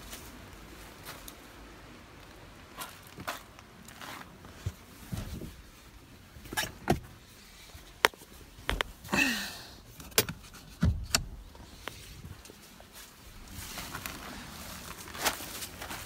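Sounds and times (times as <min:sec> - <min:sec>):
handling clicks and rustles: 0:00.0 - 0:09.2, 0:09.8 - 0:16.0.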